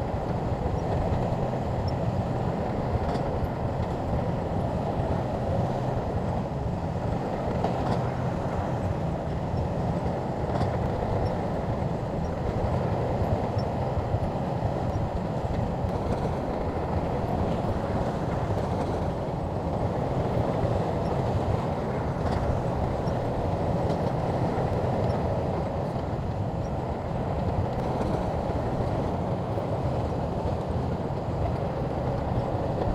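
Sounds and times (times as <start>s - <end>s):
steel tracks clattering: 0.0s - 32.9s.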